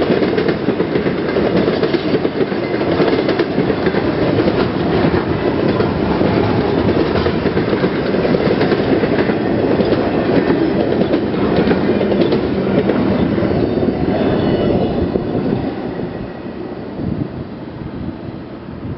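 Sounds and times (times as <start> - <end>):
freight train cars rolling: 0.0 - 18.9.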